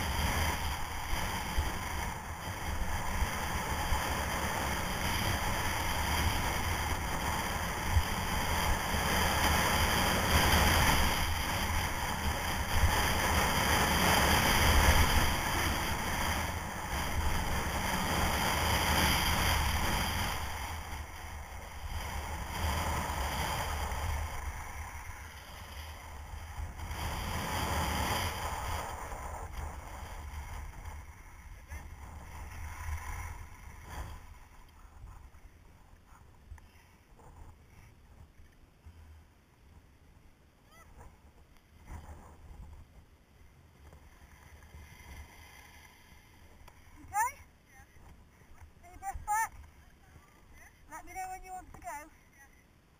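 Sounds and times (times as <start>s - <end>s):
skis scraping over snow: 0.0s - 39.2s, 40.7s - 52.6s
wind rushing over microphone: 0.0s - 52.1s.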